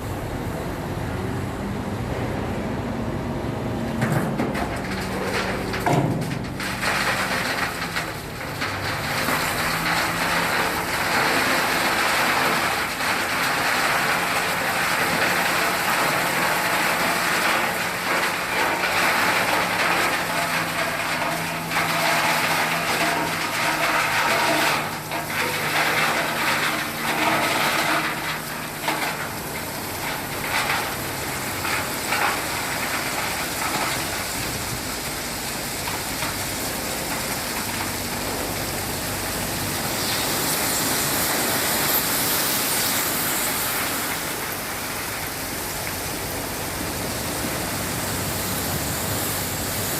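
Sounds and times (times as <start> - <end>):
truck engine hum: 0.0 - 49.9.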